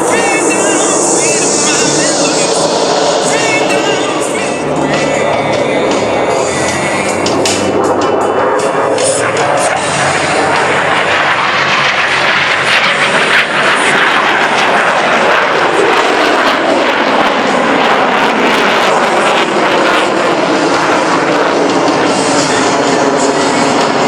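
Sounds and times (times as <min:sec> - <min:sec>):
jet aircraft flying past: 0:00.0 - 0:24.0.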